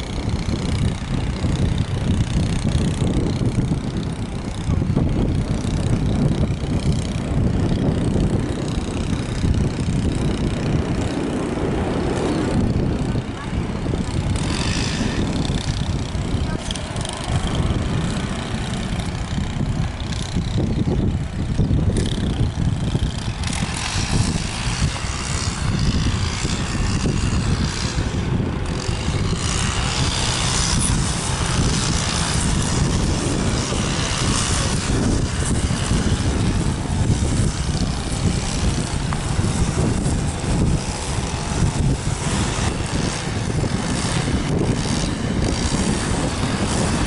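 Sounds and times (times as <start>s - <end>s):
wind buffeting microphone: 0.0s - 47.0s
wind hiss: 0.0s - 47.0s.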